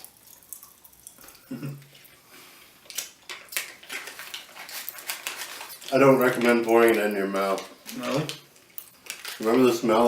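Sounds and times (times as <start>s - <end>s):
popping candy crackling: 0.0s - 2.0s, 2.8s - 10.0s.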